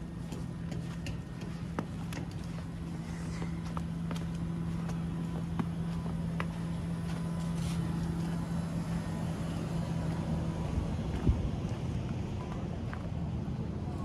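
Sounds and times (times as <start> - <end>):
engine humming: 0.0 - 14.0
street background noise: 0.0 - 14.0.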